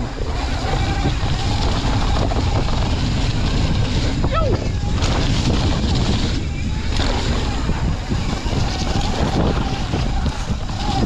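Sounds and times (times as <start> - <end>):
bike tyre noise: 0.0 - 11.0
wind buffeting microphone: 0.0 - 11.0
bike knocking over bumps: 0.5 - 11.0.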